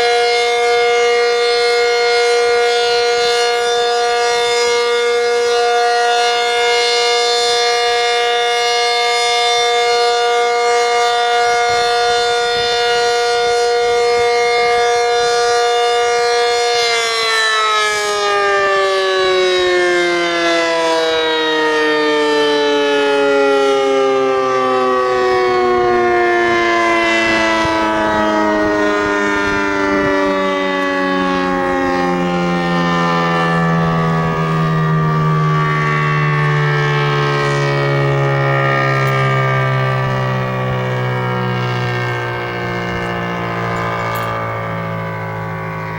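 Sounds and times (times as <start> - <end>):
tornado siren winding down: 0.0 - 45.9.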